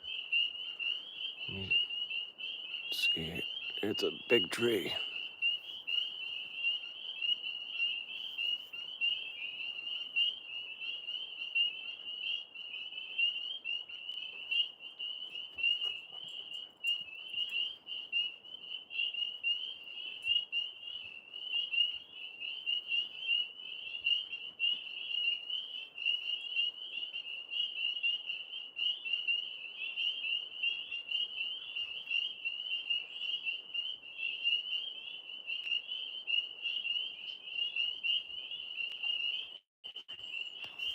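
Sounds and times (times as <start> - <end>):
tree frogs trilling: 0.0 - 40.9.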